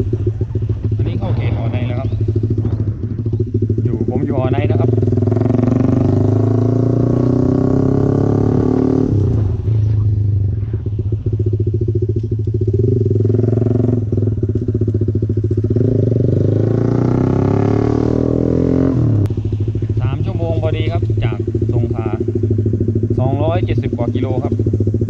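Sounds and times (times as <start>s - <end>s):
motorcycle engine running hard: 0.0s - 25.0s.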